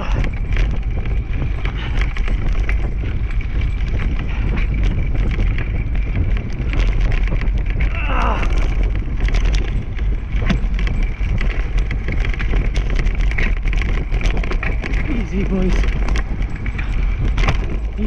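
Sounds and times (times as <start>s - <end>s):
clicks and rattles of rig: 0.0s - 18.0s
low rumble of rig on trail: 0.0s - 18.0s
wind buffeting microphone: 0.0s - 18.0s.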